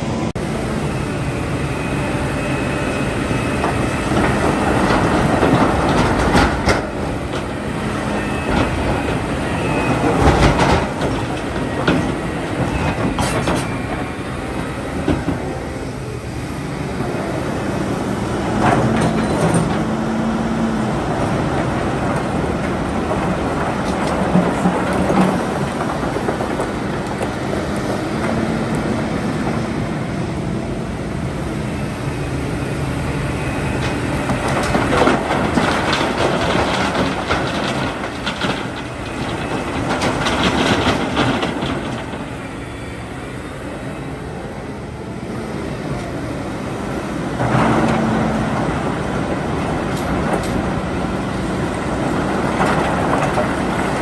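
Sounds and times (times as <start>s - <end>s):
excavator diesel engine droning: 0.0s - 54.0s.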